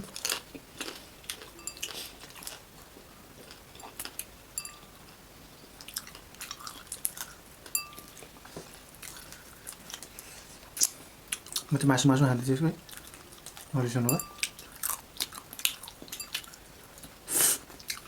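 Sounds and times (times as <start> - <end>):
chewing and crunching crisp shell: 0.0 - 4.3, 5.8 - 11.8, 12.8 - 18.0.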